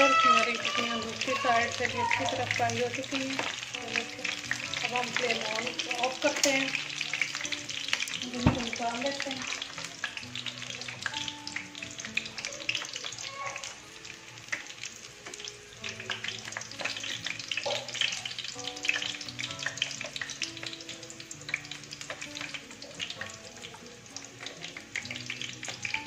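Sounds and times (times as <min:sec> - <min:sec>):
patties sizzling in oil: 0:00.0 - 0:26.0
soft background music: 0:00.0 - 0:26.0.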